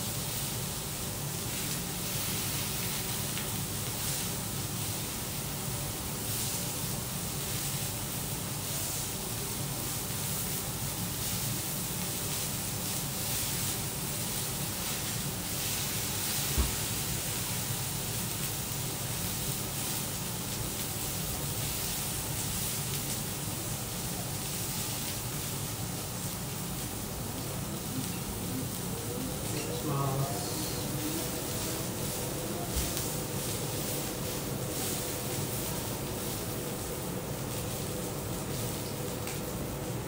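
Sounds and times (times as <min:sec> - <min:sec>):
beef sizzling on a griddle: 0:00.0 - 0:40.0.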